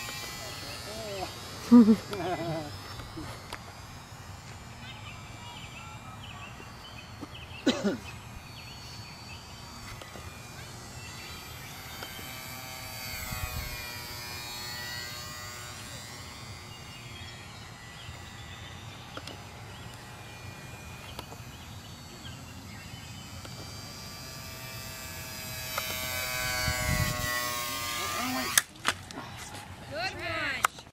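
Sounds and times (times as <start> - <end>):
model plane motor whining: 0.0 - 30.9.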